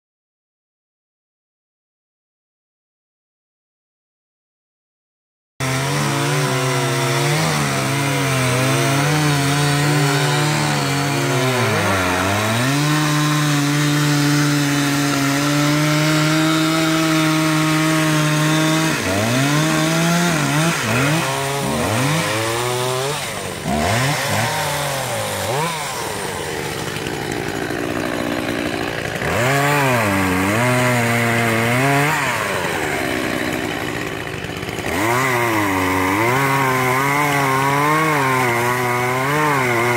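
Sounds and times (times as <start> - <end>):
chainsaw cutting log: 5.6 - 39.9.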